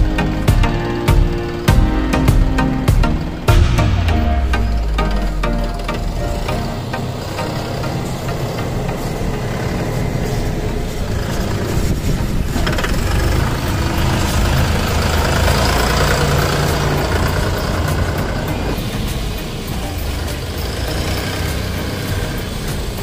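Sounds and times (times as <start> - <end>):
tractor diesel engine rumbling: 0.0 - 23.0.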